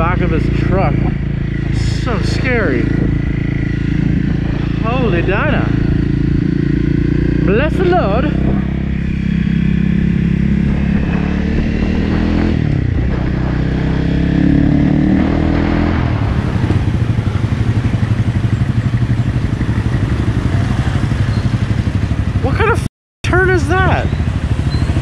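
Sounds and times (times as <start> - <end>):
dirt bike engine: 0.0 - 25.0.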